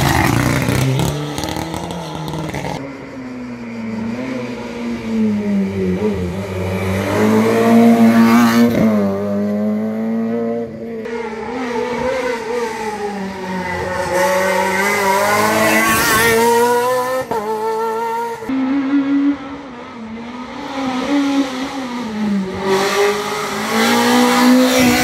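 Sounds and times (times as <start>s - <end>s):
rally car engine revving: 0.0s - 2.8s, 4.0s - 25.0s.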